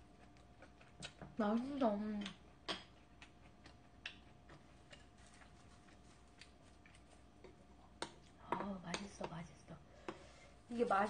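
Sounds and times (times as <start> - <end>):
chewing and eating clicks: 0.0 - 10.2.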